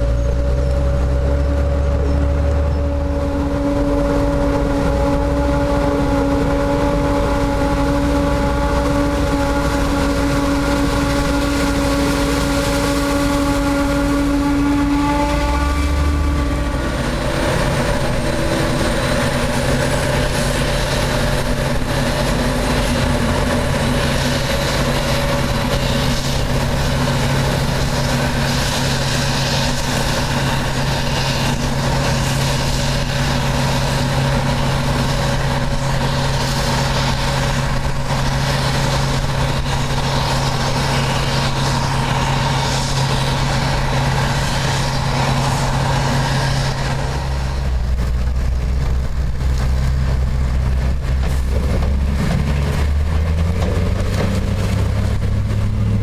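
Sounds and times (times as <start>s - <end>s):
harvester engine droning: 0.0s - 56.0s
tractor engine: 0.0s - 56.0s.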